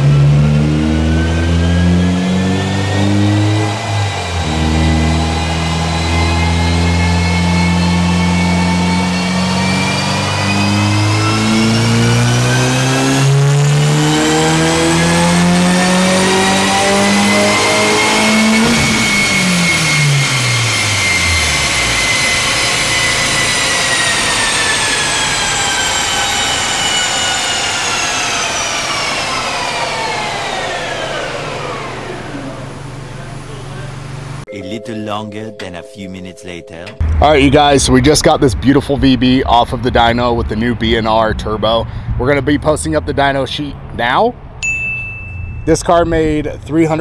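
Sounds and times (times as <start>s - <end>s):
car engine revving: 0.0s - 34.5s, 37.0s - 44.6s
high whine: 0.0s - 43.8s, 44.6s - 47.0s.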